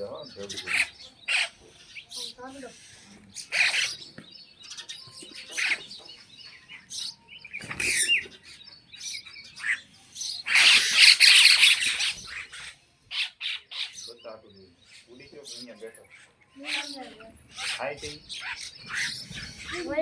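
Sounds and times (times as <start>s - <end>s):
birds chirping: 0.0s - 20.0s
harsh bird calls: 0.0s - 20.0s.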